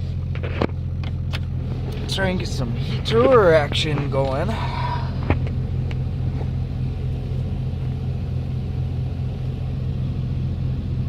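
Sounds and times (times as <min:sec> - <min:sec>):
pickup truck engine running: 0:00.0 - 0:11.0.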